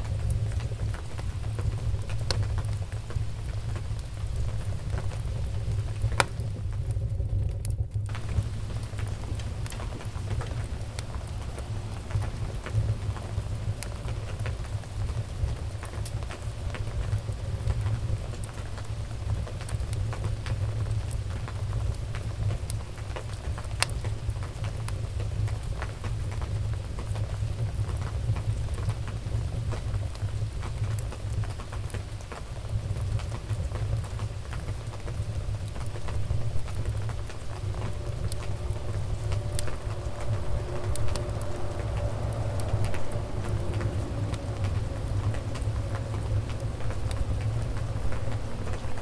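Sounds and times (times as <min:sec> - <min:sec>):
faint steady hum: 0:00.0 - 0:49.0
fire crackling and popping: 0:00.0 - 0:49.0
fire flames rumbling: 0:00.0 - 0:49.0.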